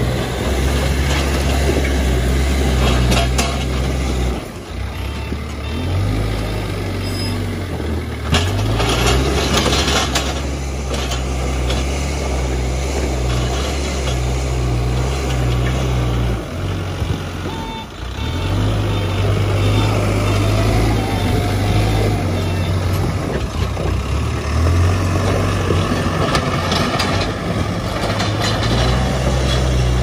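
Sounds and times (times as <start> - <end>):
diesel engine revving: 0.0 - 30.0.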